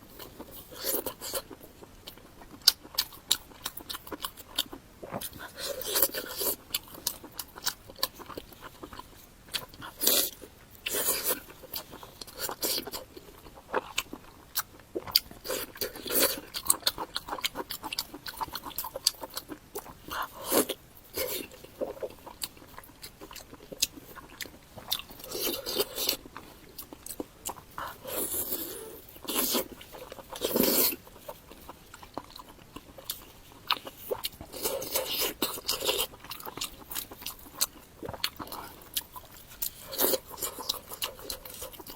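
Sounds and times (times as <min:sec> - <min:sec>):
food crunching: 0:00.0 - 0:41.9.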